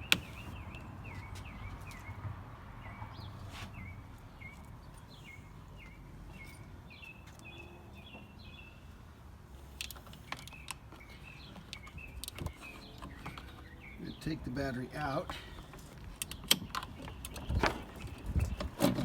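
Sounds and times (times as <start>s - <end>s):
bird chirping: 0.0s - 2.2s, 2.8s - 8.9s, 10.1s - 19.0s.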